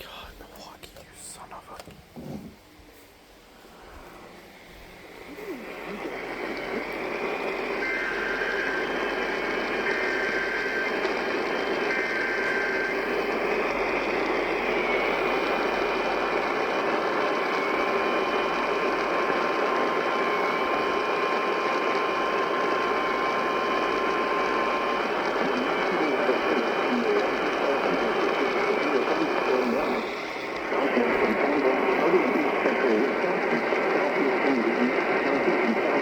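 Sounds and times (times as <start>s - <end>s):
long steady attention tone: 0.0s - 36.0s
radio static: 0.0s - 36.0s.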